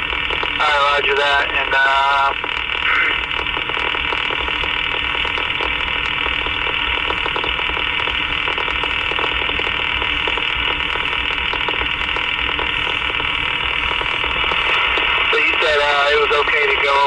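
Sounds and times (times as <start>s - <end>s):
faint crackle: 0.0s - 17.0s
radio static hiss: 0.0s - 17.0s.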